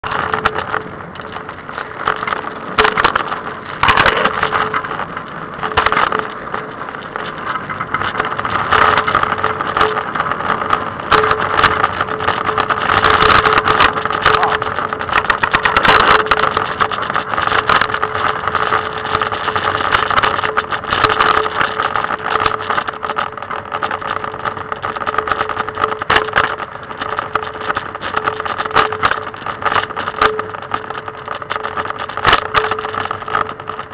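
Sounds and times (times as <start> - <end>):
scooter wheels rolling on pavement: 0.0 - 33.9.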